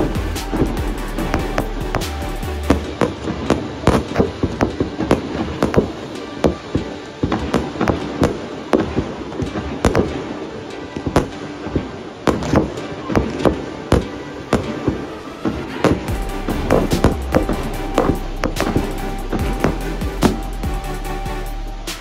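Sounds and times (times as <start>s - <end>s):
fireworks bangs and cracks: 0.0s - 20.8s.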